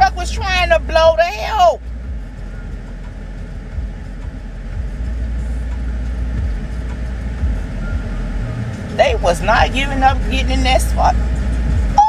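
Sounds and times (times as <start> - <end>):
idling vehicle engines: 0.0 - 12.0.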